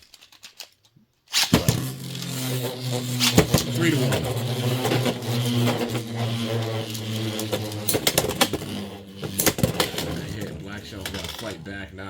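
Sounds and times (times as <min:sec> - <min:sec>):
spinning tops clacking together: 0:01.3 - 0:11.7
spinning tops whirring: 0:01.3 - 0:11.9.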